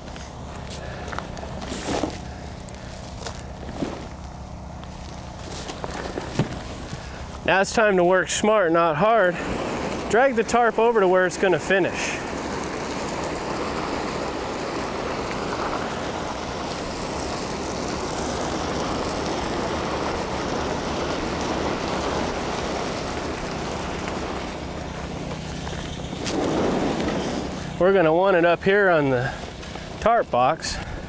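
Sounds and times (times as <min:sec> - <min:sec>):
tarp dragged across gravel: 0:00.0 - 0:30.9.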